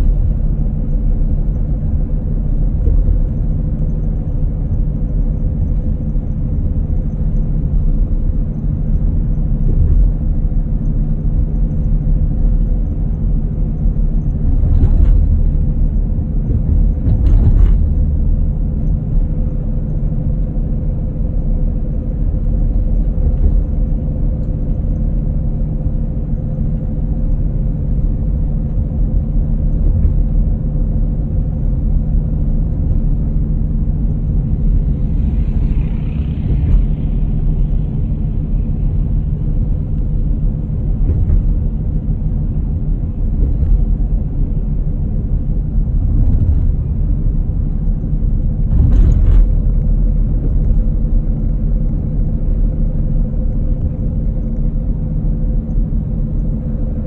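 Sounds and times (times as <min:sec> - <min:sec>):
motor running with low rumble: 0:00.0 - 0:57.0.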